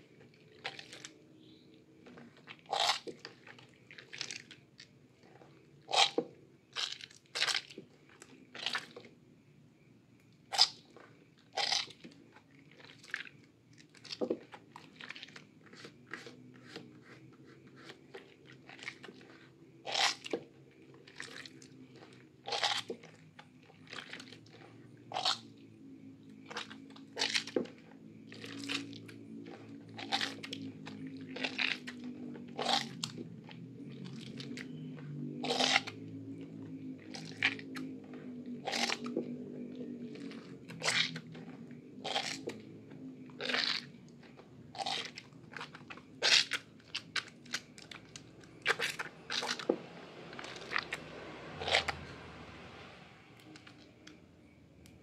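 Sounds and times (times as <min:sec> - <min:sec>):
wet squelching of soap lather: 0:00.0 - 0:09.2, 0:10.5 - 0:54.2.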